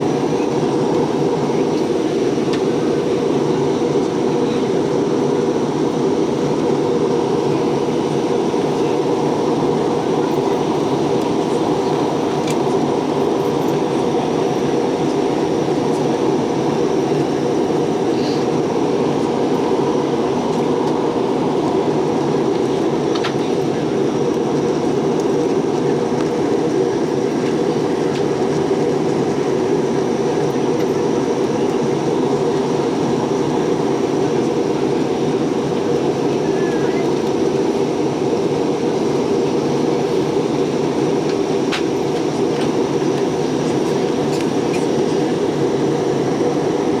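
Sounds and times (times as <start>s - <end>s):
airliner cabin noise: 0.0s - 47.0s.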